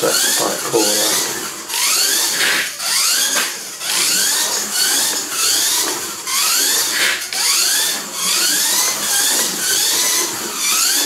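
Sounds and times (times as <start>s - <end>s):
toy car electric motor whining: 0.0s - 11.0s.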